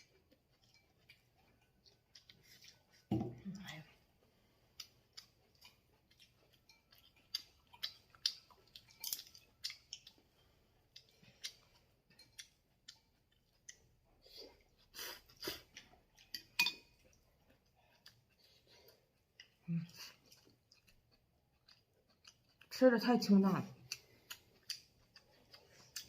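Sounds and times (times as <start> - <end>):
person chewing crunchy food: 0.0 - 3.1, 4.0 - 22.7, 23.8 - 26.0.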